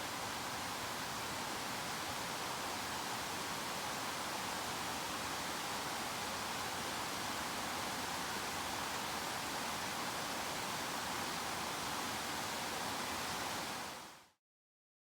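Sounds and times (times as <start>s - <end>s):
rushing water: 0.0s - 14.2s.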